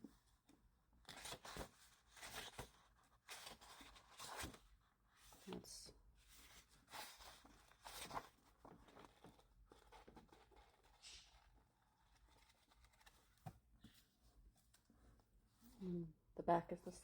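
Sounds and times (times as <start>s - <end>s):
book pages turning: 1.0s - 14.9s.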